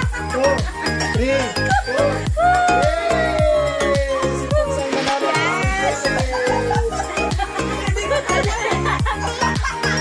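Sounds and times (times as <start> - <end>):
dance music with fast beat: 0.0 - 10.0.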